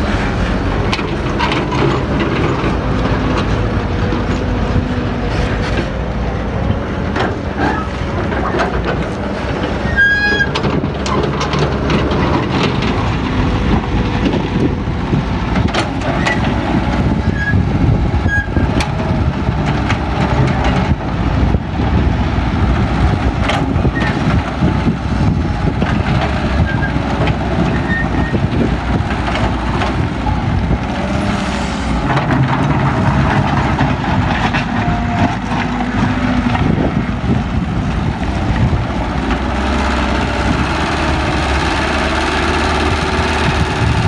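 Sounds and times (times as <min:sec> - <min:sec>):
diesel machinery engine rumble: 0:00.0 - 0:44.0.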